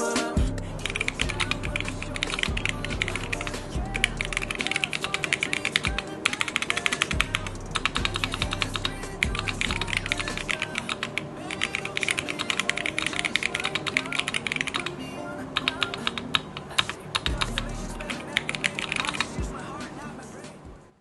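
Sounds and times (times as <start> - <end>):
background music: 0.0 - 21.0
fast mechanical keyboard typing: 0.8 - 14.9, 15.6 - 19.4.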